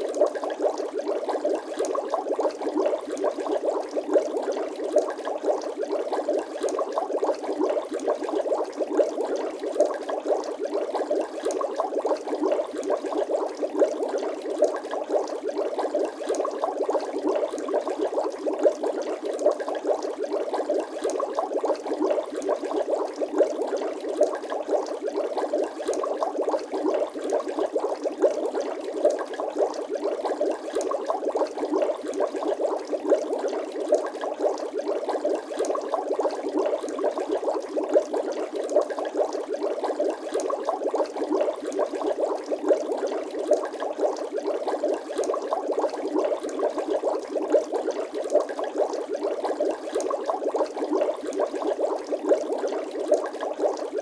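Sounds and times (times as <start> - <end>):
water bubbling: 0.0 - 54.0.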